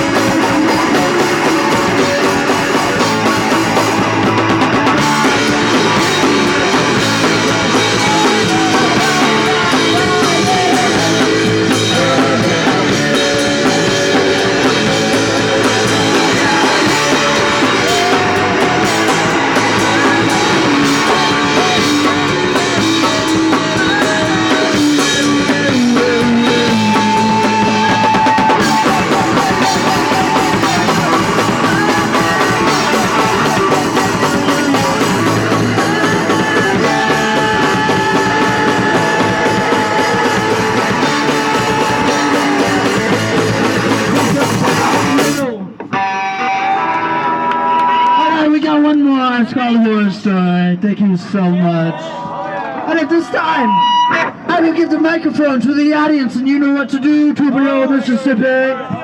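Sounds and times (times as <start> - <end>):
punk rock band playing: 0.0 - 49.8, 52.0 - 54.8.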